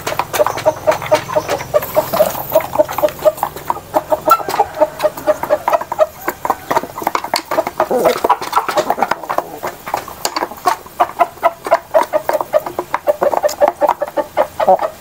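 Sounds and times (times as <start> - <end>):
beaks tapping on wooden trough: 0.0 - 15.0
chickens clucking: 0.0 - 15.0.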